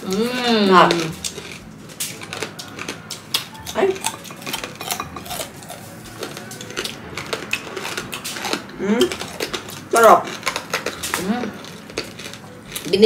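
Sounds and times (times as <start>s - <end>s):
crunching crispy pork: 0.0s - 13.0s.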